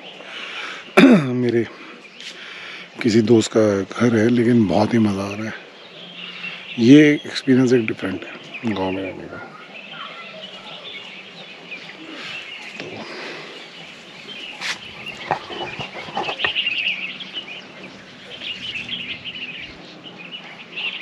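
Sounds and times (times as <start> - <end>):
small birds chirping chorus: 0.0 - 21.0.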